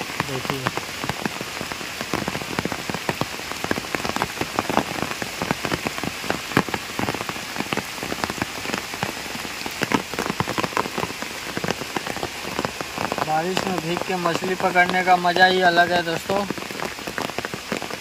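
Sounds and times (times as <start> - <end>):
heavy rain on pond and leaves: 0.0 - 18.0.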